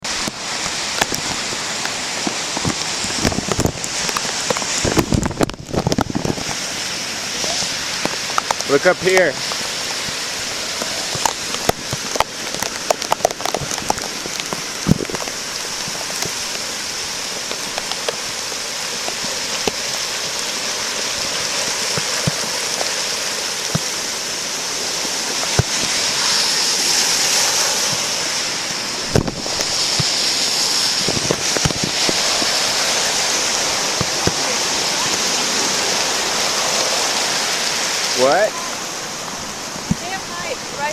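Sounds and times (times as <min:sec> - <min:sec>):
creek water rushing: 0:00.0 - 0:40.9
rain falling: 0:00.0 - 0:40.9.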